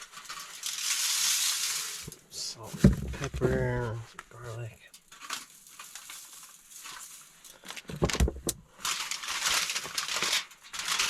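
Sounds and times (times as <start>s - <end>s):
aluminium foil crinkling: 0.0s - 2.7s, 3.9s - 11.0s.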